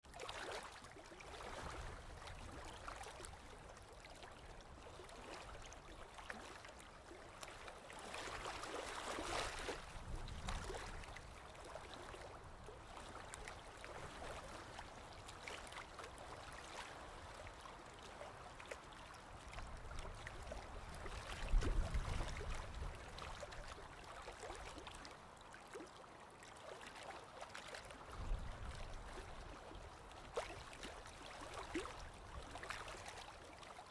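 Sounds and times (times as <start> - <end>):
stream water trickling: 0.0 - 33.9.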